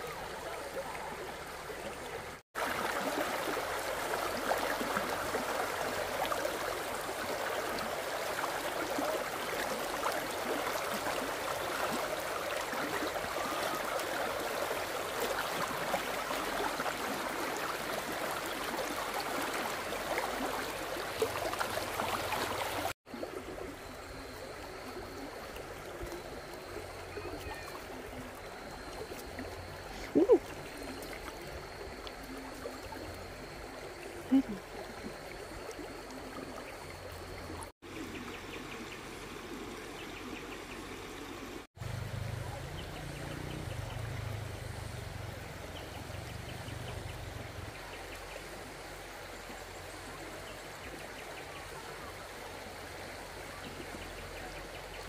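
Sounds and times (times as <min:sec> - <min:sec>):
stream water trickling: 0:00.0 - 0:55.0.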